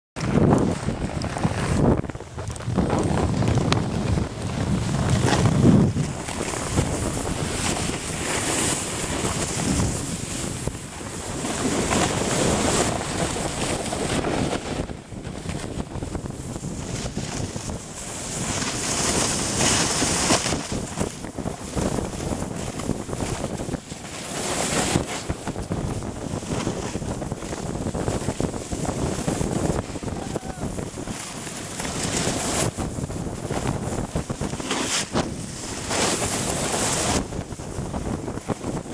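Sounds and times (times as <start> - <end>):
sliding over packed snow: 0.2 - 38.9
wind buffeting microphone: 0.2 - 38.9.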